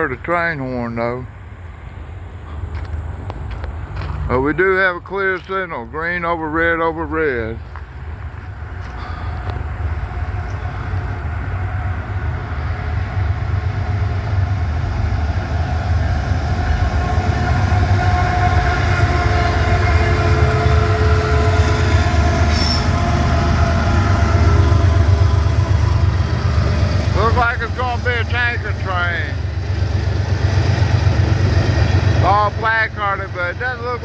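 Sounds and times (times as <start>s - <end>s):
freight train rumbling: 0.0s - 34.0s.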